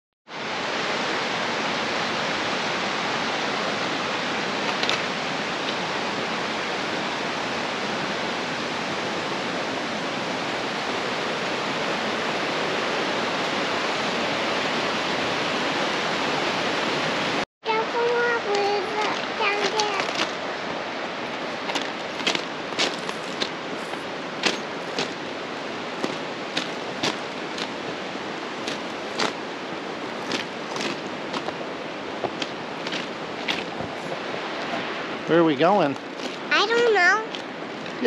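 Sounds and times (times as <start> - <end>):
flowing water rushing: 0.3 - 38.0.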